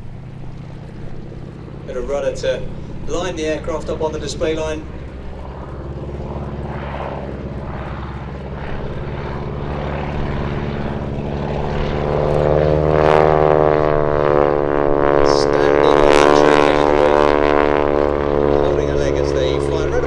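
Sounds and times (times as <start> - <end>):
biplane propeller engine: 0.0 - 20.0.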